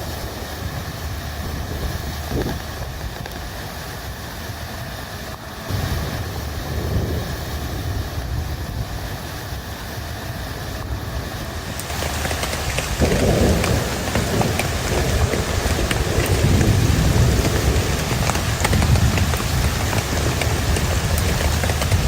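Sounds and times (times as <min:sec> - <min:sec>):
low rumble: 0:00.0 - 0:22.0
sharp raindrop ticks: 0:00.0 - 0:22.0
steady rain: 0:00.0 - 0:22.0.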